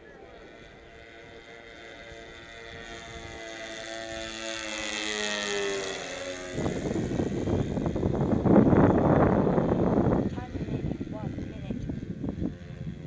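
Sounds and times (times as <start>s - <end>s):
model plane engines flying past: 0.0s - 13.0s.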